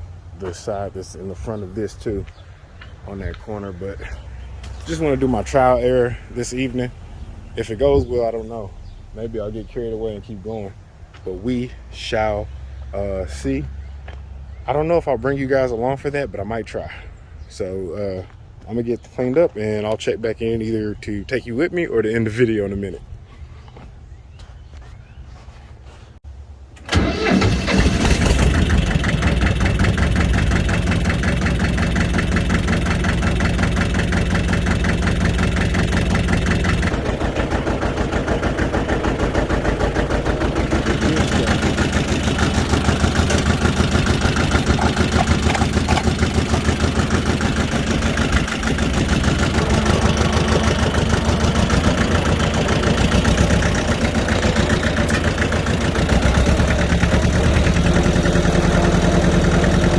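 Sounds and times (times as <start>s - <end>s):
tractor engine idling: 0.0s - 17.0s, 26.8s - 59.9s.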